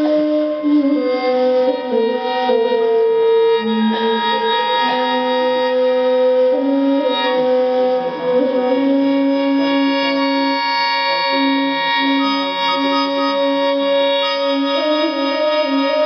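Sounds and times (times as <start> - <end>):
slow melody of held notes: 0.0 - 16.0.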